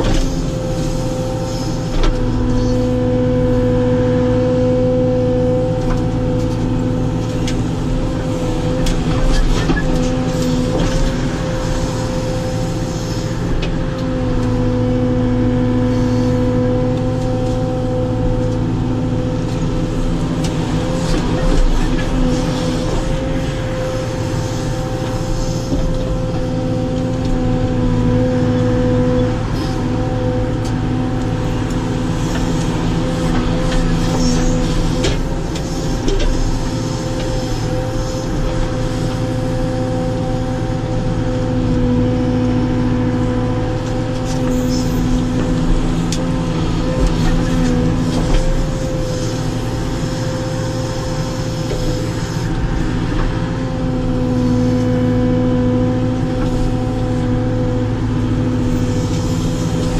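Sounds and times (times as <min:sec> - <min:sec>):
diesel engine drone: 0:00.0 - 0:59.9
hydraulic whine: 0:00.0 - 0:59.9.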